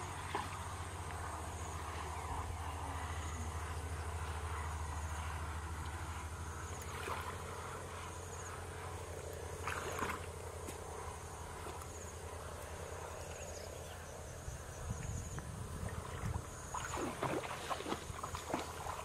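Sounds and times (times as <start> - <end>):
insects chirping: 0.0 - 19.0
low steady rumble: 0.0 - 19.0.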